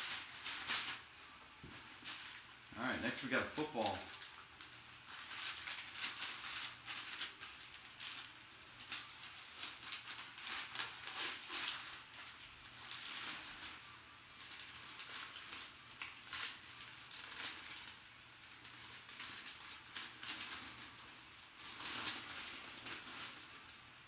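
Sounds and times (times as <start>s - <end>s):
plastic and paper crinkling: 0.0s - 24.0s.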